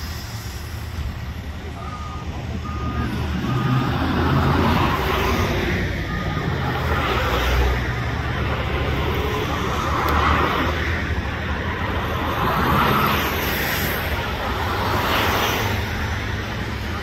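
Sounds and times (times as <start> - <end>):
low road noise rumble: 0.0 - 17.0
vehicles passing: 0.0 - 17.0.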